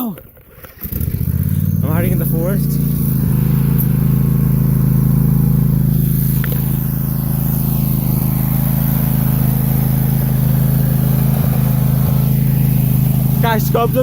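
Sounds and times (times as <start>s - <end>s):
lawn tractor engine running: 0.0s - 14.0s.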